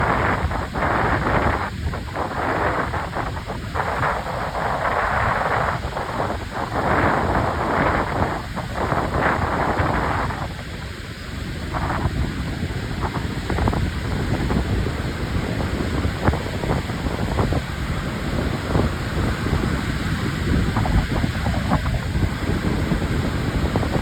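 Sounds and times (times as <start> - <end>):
surf crashing against pier: 0.0 - 24.0
wind buffeting microphone: 0.0 - 24.0.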